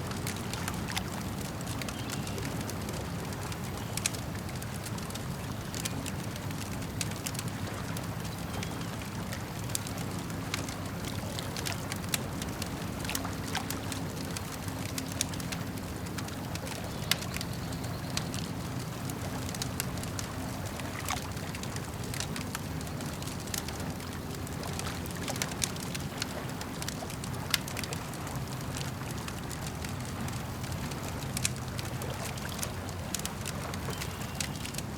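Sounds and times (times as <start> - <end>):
campfire crackling and popping: 0.0 - 34.9
lake water lapping: 0.0 - 34.9.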